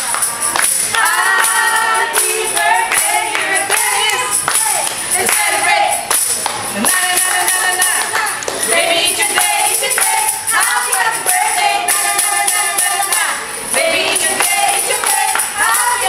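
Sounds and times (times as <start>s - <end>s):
hands clapping: 0.0s - 16.0s
people singing together: 0.0s - 16.0s
tambourine shaken and struck: 0.0s - 16.0s.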